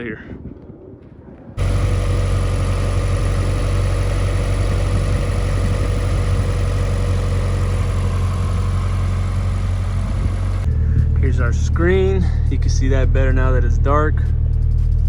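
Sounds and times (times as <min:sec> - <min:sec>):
car engine idling: 0:01.6 - 0:15.0.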